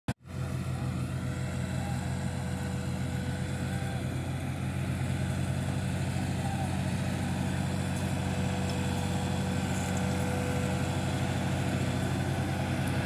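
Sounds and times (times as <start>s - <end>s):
tractor diesel engine running: 0.1s - 13.0s.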